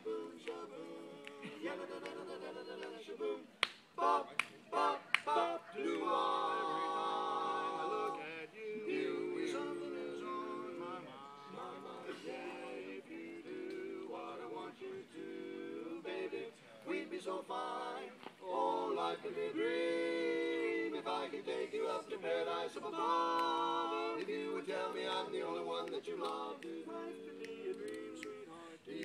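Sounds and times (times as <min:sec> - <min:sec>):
male quartet singing a cappella: 0:00.0 - 0:29.0.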